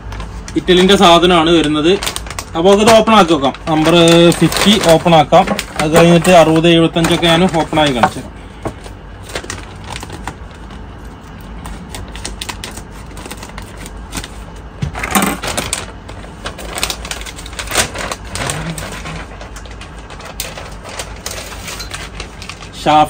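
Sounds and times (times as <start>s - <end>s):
packaging crackling: 0.0s - 23.0s.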